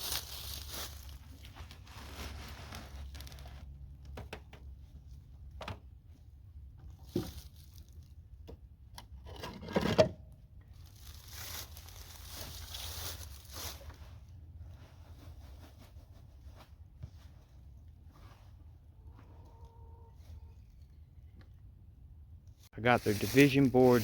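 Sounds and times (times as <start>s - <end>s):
rustling and crinkling: 0.0s - 8.4s, 10.6s - 21.5s, 22.5s - 24.0s.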